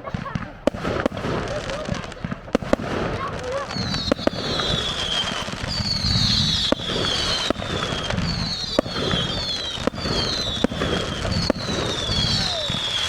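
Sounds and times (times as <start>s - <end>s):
firework bangs: 0.0s - 13.0s
whistling fireworks: 0.0s - 13.0s.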